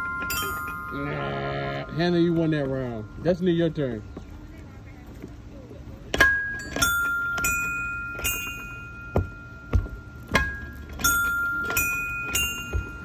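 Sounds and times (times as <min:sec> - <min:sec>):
ringing chime tones: 0:00.0 - 0:04.1, 0:06.2 - 0:13.0.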